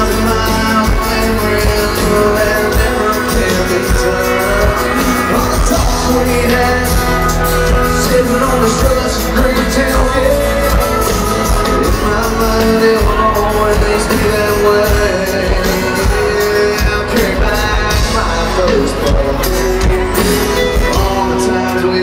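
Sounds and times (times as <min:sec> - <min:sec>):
live country band playing: 0:00.0 - 0:22.0
man singing lead: 0:00.0 - 0:22.0.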